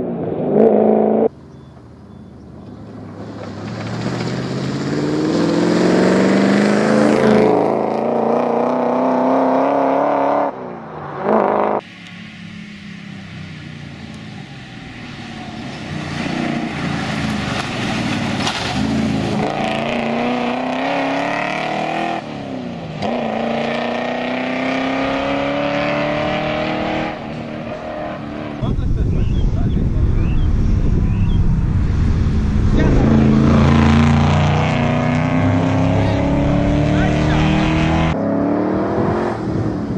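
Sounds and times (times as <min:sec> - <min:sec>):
car engine accelerating hard: 0:02.8 - 0:11.9, 0:13.2 - 0:39.9.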